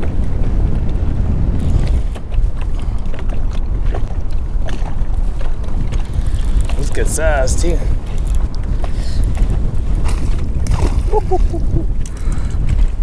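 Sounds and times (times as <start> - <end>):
water slapping against hull: 0.0 - 13.0
wind buffeting microphone: 0.0 - 13.0.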